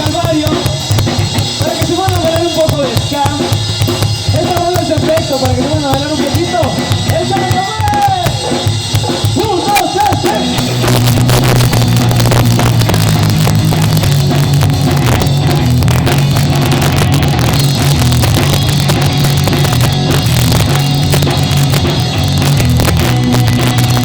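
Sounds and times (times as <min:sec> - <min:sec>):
live ska band playing: 0:00.0 - 0:24.0.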